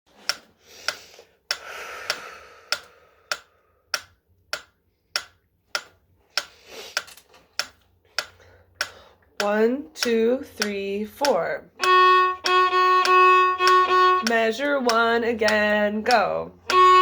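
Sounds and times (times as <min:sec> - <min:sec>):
metronome ticking: 0:00.1 - 0:17.0.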